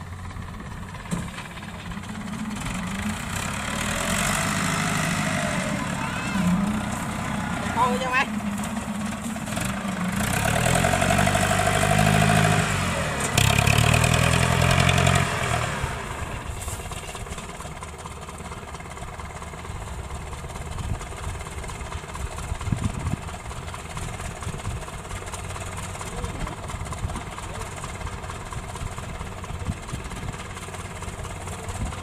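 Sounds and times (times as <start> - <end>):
harvester engine running: 0.0 - 32.0.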